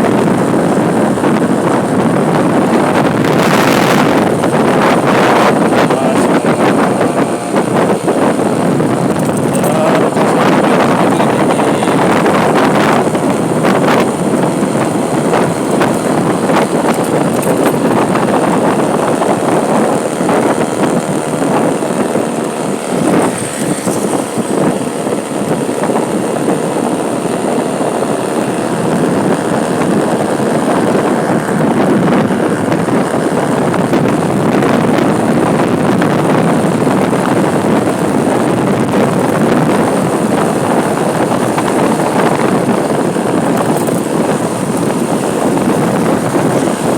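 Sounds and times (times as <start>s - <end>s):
road vehicle noise: 0.0s - 46.9s
wind buffeting microphone: 0.0s - 46.9s.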